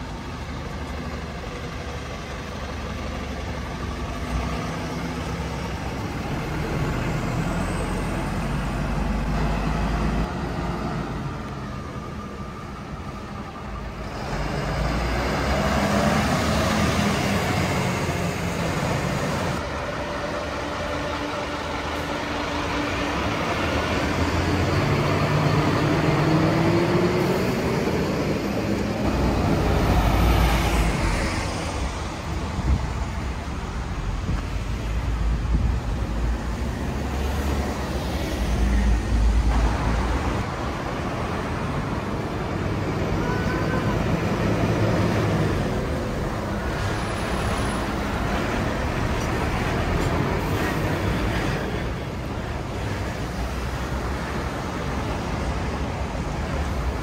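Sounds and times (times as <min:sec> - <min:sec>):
fire engines running: 0:00.0 - 0:57.0
traffic noise: 0:00.0 - 0:57.0
vehicles passing rumble: 0:00.0 - 0:57.0.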